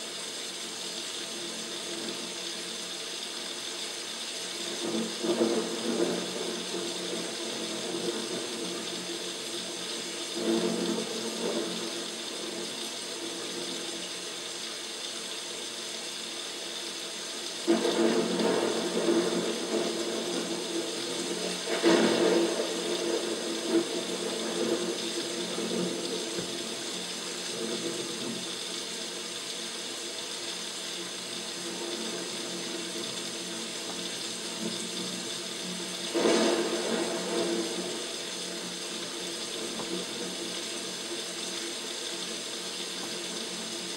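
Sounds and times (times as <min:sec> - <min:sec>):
artificial rain splashing: 0:00.0 - 0:43.9.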